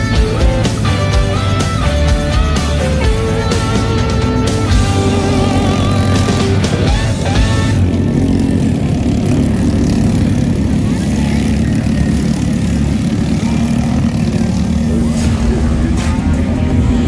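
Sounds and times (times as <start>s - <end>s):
racing kart engine buzzing: 0.0s - 17.0s.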